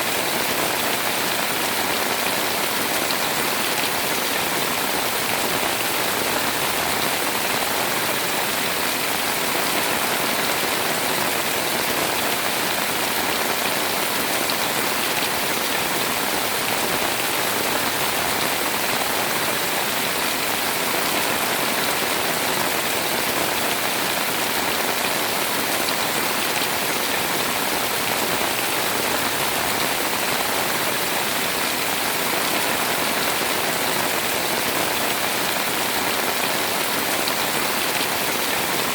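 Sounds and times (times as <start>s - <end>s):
heavy rain on a house: 0.0s - 38.9s.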